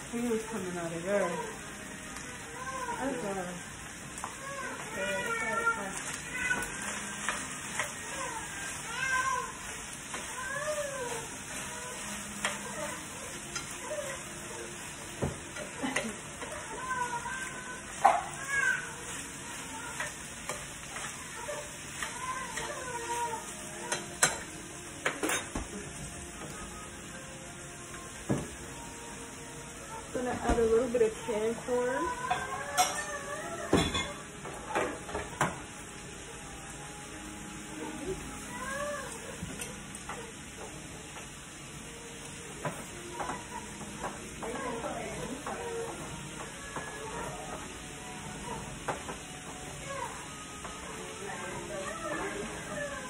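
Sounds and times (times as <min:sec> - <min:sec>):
food sizzling in a frying pan: 0:00.0 - 0:53.0.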